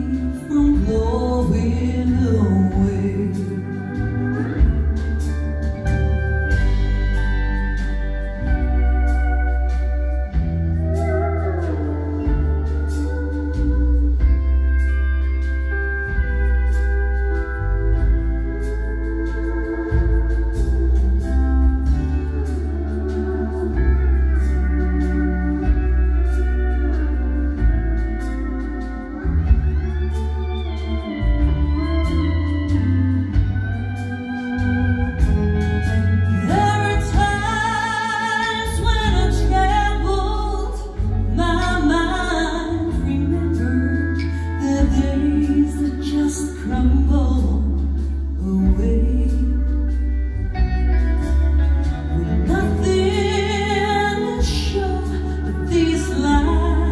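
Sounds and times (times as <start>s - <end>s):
woman singing lead vocal: 0.0s - 5.9s, 8.4s - 29.6s, 30.6s - 50.7s, 51.8s - 56.9s
drums: 0.0s - 56.9s
electric bass: 0.0s - 56.9s
live band playing: 0.0s - 56.9s
pedal steel guitar chords: 0.0s - 56.9s.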